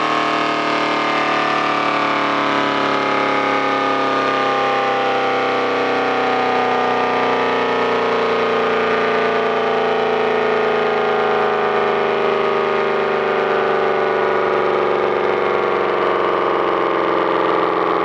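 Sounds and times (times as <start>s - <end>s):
air raid siren winding down: 0.0s - 18.0s.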